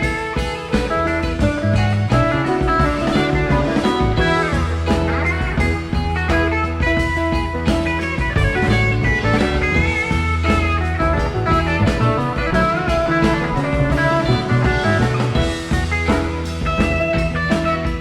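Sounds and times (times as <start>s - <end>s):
bass guitar: 0.0s - 18.0s
drum kit: 0.0s - 18.0s
electric guitar lines: 0.0s - 18.0s.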